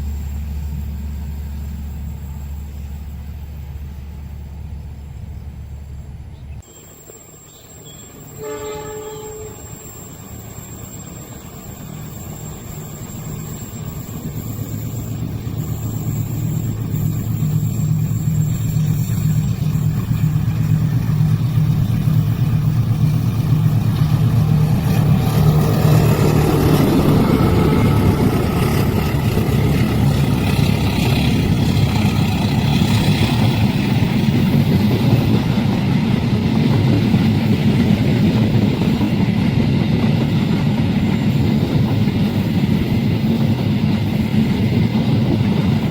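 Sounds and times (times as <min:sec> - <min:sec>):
diesel locomotive drone: 0:00.0 - 0:45.9
passing train rumble: 0:00.0 - 0:45.9.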